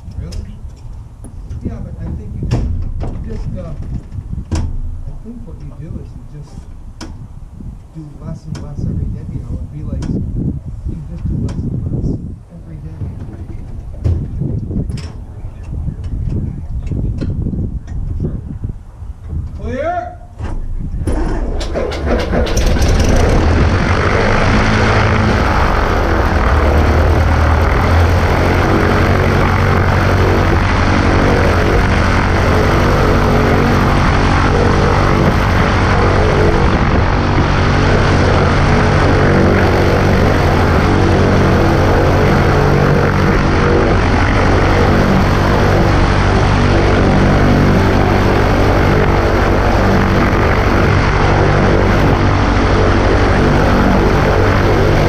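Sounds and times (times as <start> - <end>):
propeller plane engine running: 0.0 - 19.7, 20.4 - 55.0.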